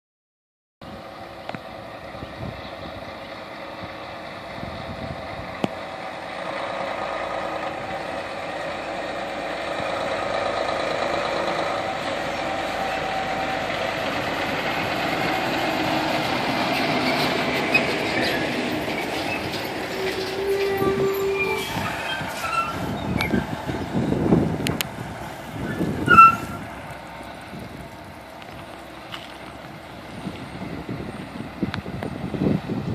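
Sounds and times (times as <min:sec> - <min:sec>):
truck diesel engine passing: 0:00.8 - 0:32.9
brakes squealing: 0:01.0 - 0:32.9.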